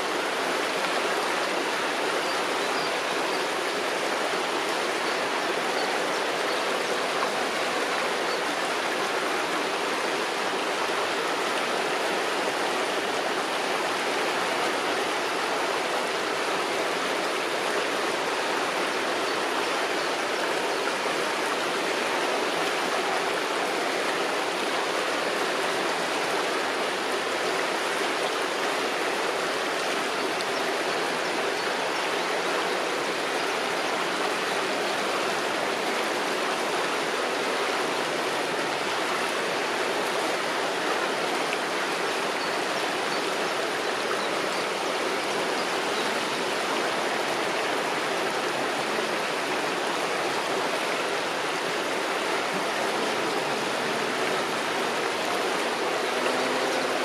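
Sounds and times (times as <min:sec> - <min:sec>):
river water rippling over stone: 0:00.0 - 0:57.0.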